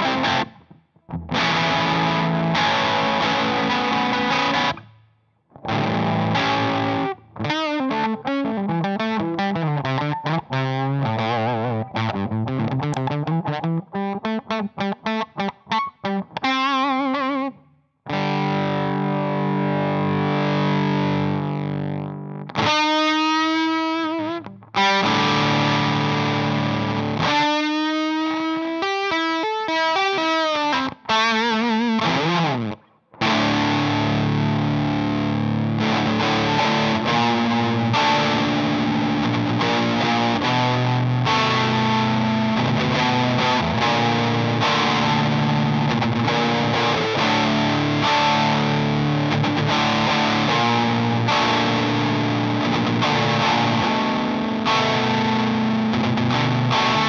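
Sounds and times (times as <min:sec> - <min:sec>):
fuzz electric guitar: 0:00.0 - 0:57.0.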